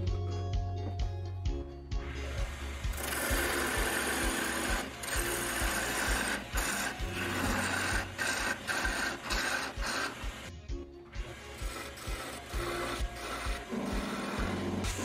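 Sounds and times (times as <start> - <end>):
lathe humming: 2.0 - 10.5, 11.2 - 15.0.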